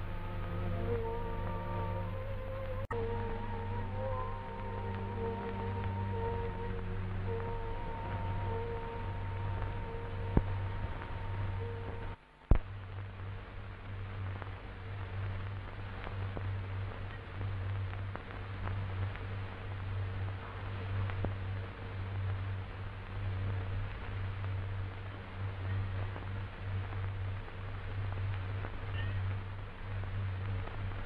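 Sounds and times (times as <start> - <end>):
film soundtrack hiss: 0.0 - 31.0
low wavering hum: 0.0 - 31.0
faint ticks: 4.8 - 31.0.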